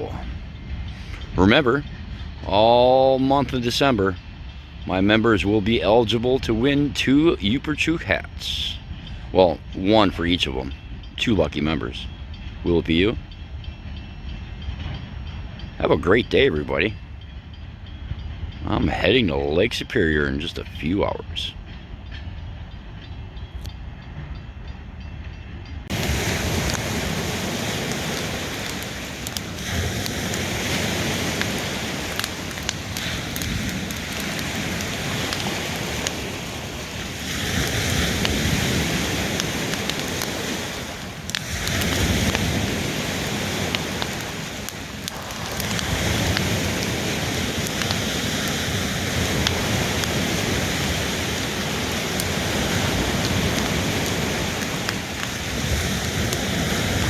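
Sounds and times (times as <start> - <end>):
waves washing onto shore: 0.0 - 13.3, 15.7 - 16.9, 18.6 - 21.6, 25.8 - 57.0.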